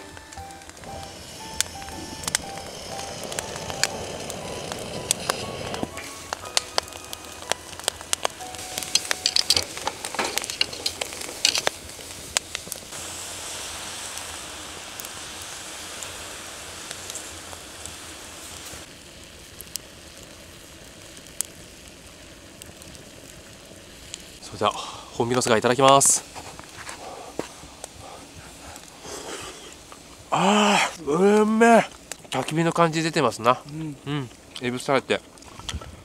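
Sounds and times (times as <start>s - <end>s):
charcoal fire crackling: 0.0s - 36.0s
clam juices sizzling: 0.0s - 36.0s.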